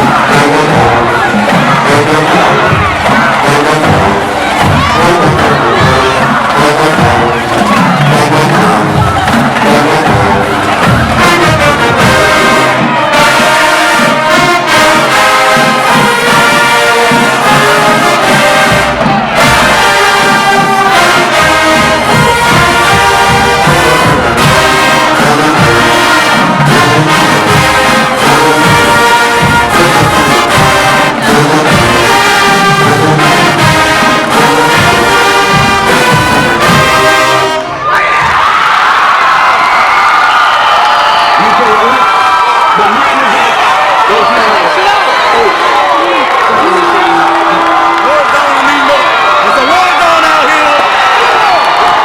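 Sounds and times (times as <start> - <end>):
drums: 0.0 - 52.0
marching band brass: 0.0 - 52.0.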